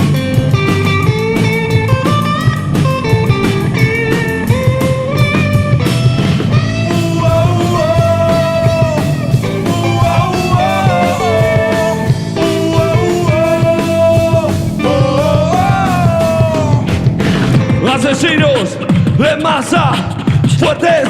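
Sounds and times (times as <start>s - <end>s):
lead guitar line: 0.0s - 19.4s
bass guitar: 0.0s - 21.0s
steady drums: 0.0s - 21.0s.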